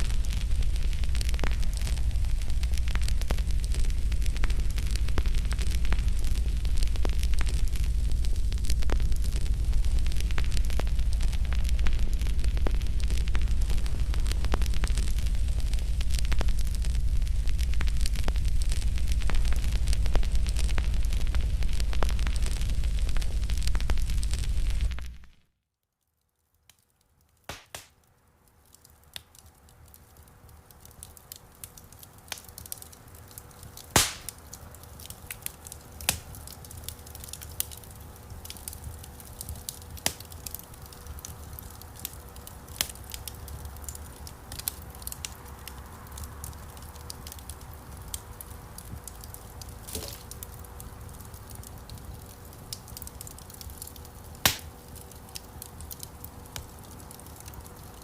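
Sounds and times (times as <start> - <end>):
campfire crackling and popping: 0.0 - 25.4, 26.6 - 58.0
low rumble of burning: 0.0 - 25.5, 26.6 - 58.0.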